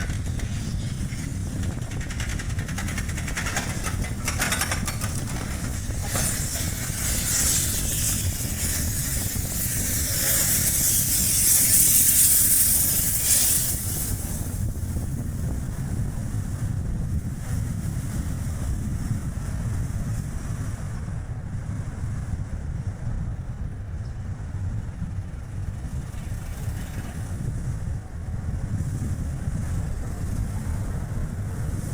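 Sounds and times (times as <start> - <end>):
car road and tyre rumble: 0.0 - 31.9
wind rushing over microphone: 0.0 - 31.9.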